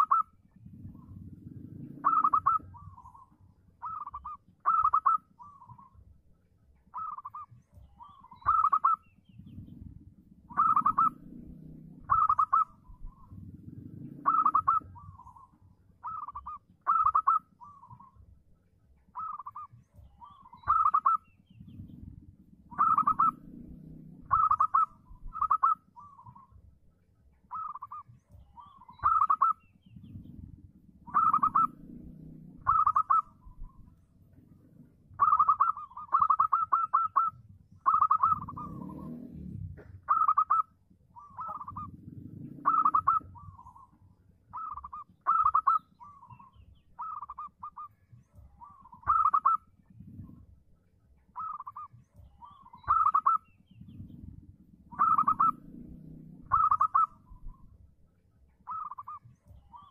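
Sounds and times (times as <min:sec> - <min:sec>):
dove cooing: 0:00.0 - 0:06.2, 0:06.8 - 0:18.4, 0:19.0 - 0:26.7, 0:27.4 - 0:50.7, 0:51.3 - 0:57.9, 0:58.6 - 0:59.9.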